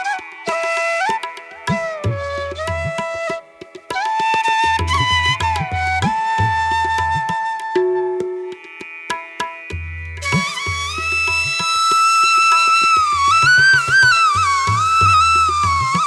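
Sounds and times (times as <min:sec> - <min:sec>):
wavering flute-like melody: 0:00.0 - 0:09.2, 0:10.2 - 0:16.0.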